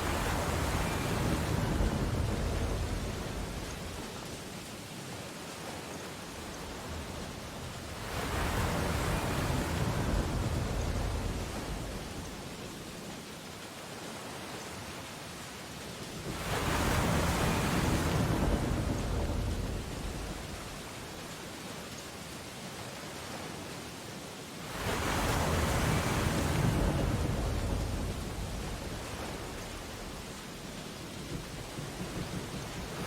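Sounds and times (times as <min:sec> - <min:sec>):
ocean waves breaking: 0:00.0 - 0:13.2, 0:15.7 - 0:21.5, 0:24.6 - 0:33.0
surf hiss: 0:00.0 - 0:33.0.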